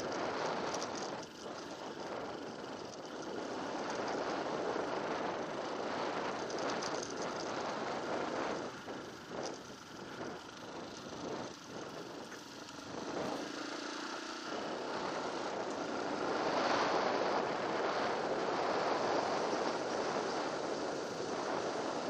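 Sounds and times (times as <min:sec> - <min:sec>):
motorbike engine drone: 0:00.0 - 0:22.0.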